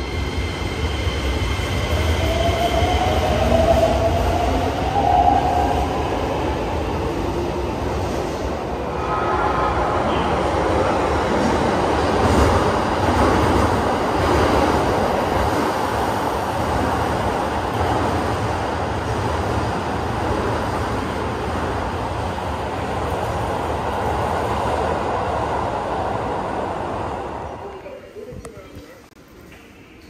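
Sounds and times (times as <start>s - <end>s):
subway train rumble and wheel noise: 0.0s - 30.0s.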